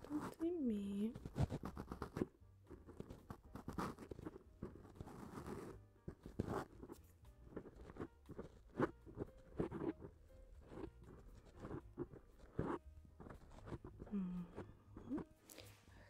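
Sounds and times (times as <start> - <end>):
scratching on microphone: 0.0 - 15.3
faint background music: 0.0 - 16.0.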